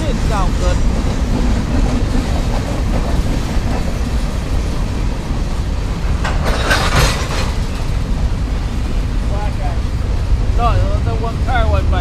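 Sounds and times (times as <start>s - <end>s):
rush of noise: 0.0s - 12.0s
train wheels rumbling on rail: 0.0s - 12.0s.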